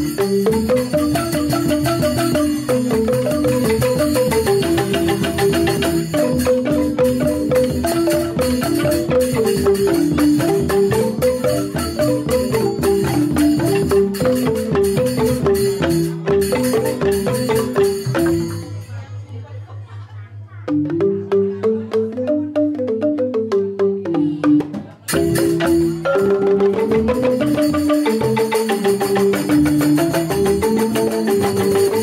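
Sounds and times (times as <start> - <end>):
hand drum: 0.0 - 19.0, 20.6 - 32.0
bamboo xylophones struck with mallets: 0.0 - 19.7, 20.6 - 32.0.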